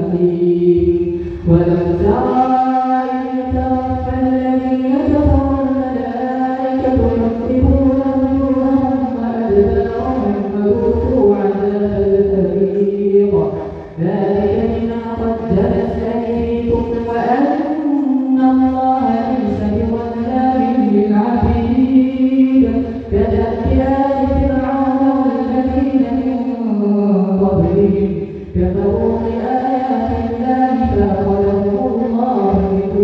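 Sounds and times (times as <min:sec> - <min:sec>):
man chanting recitation: 0:00.0 - 0:33.0.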